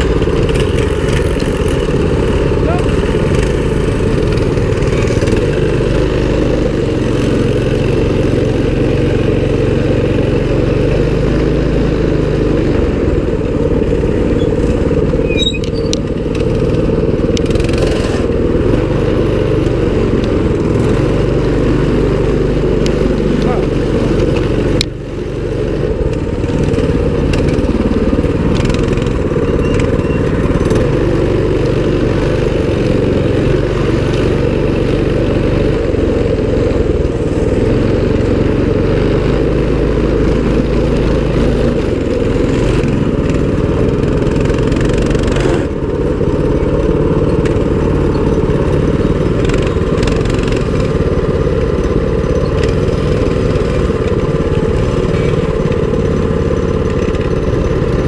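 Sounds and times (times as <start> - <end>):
small engine revving: 0.0 - 58.0.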